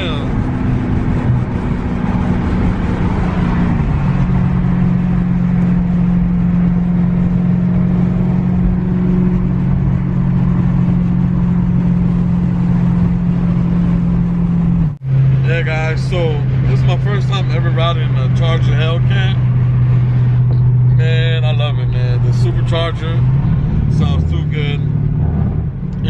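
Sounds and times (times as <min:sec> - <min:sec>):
car engine drone from inside cabin: 0:00.0 - 0:26.0.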